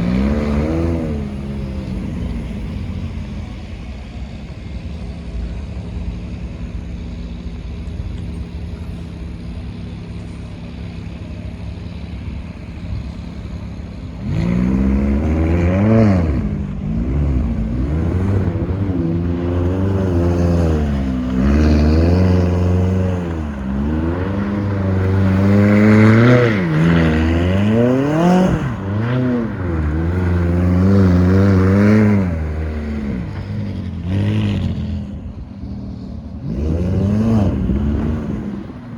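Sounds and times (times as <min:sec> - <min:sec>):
sports car engine revving: 0:00.0 - 0:38.9.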